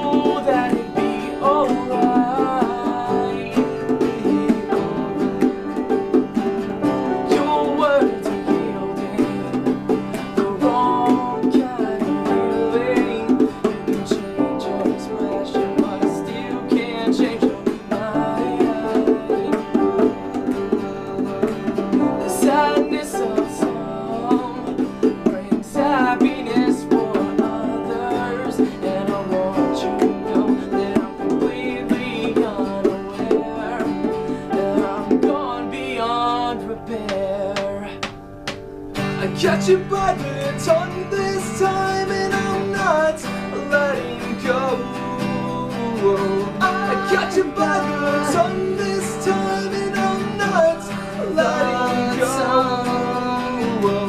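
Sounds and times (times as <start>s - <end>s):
person singing: 0.0s - 38.2s, 39.0s - 54.0s
plucked acoustic string instruments: 0.0s - 54.0s.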